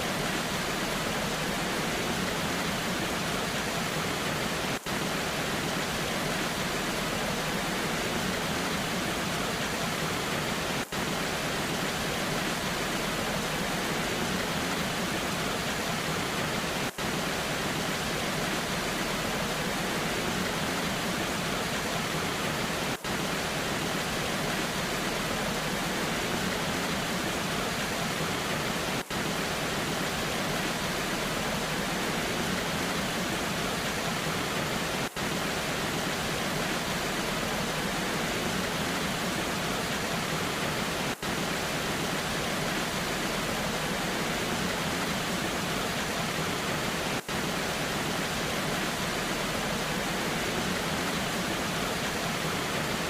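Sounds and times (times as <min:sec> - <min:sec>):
rain: 0:00.0 - 0:53.0
waterfall rushing: 0:00.0 - 0:53.0.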